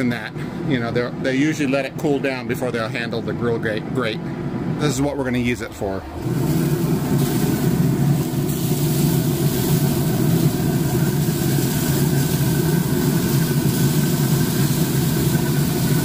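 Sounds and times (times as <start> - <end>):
pellet grill humming: 0.0 - 16.0.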